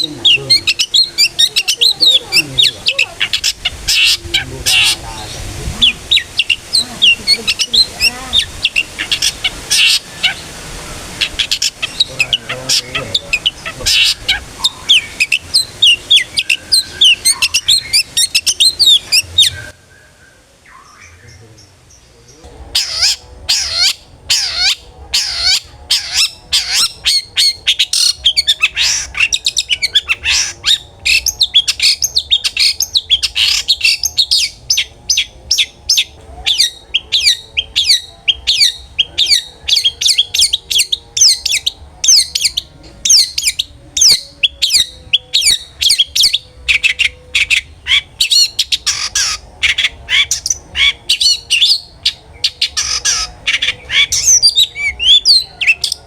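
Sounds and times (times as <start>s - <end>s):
bird chattering song: 0.0s - 19.8s, 20.6s - 56.0s.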